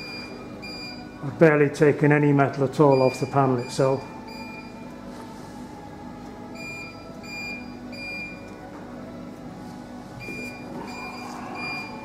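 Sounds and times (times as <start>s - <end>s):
low steady machine hum: 0.0s - 12.0s.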